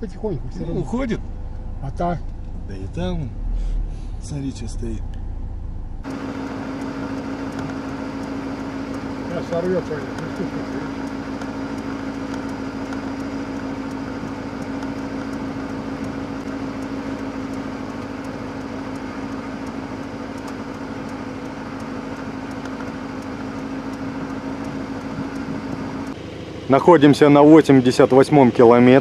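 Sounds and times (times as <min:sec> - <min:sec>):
car engine and road noise hum: 0:00.0 - 0:29.0.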